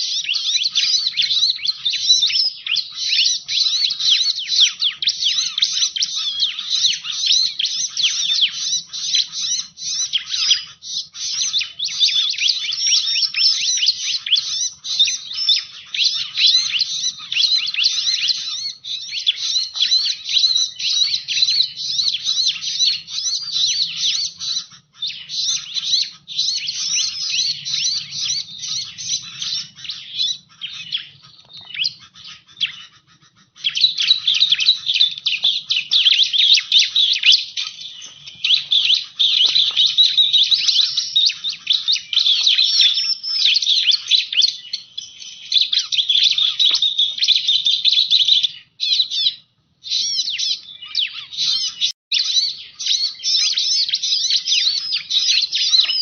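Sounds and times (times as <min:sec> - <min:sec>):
bird chattering trills: 0:00.0 - 0:56.0.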